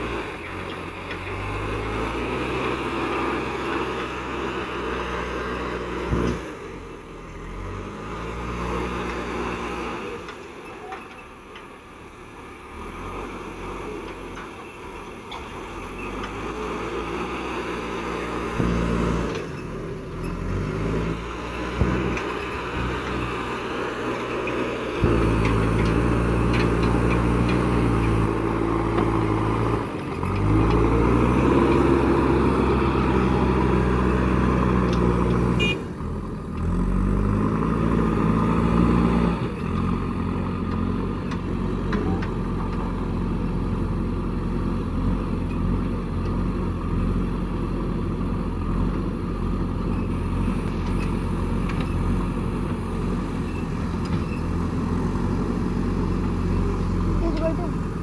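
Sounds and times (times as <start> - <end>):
diesel engine working under load: 0.0 - 58.0
loader pushing soil: 0.0 - 58.0.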